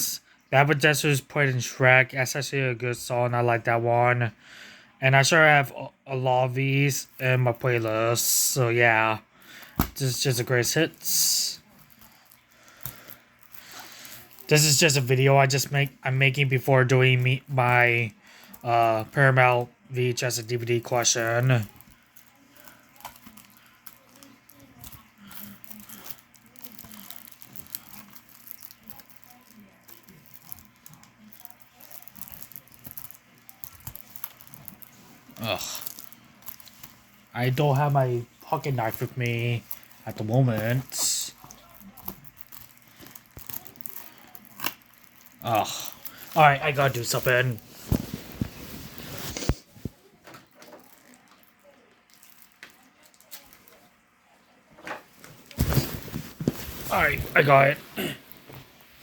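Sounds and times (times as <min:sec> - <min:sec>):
soft rustling of wrapping: 0:06.9 - 0:59.0.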